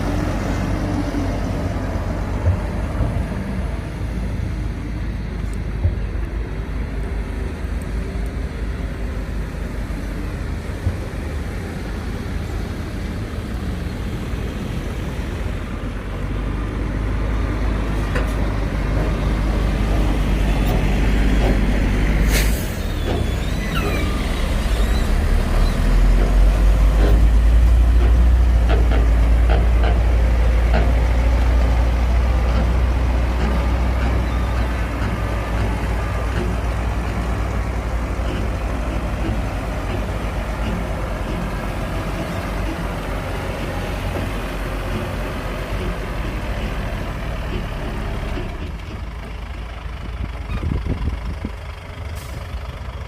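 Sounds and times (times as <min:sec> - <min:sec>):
diesel engine rumble: 0:00.0 - 0:53.0.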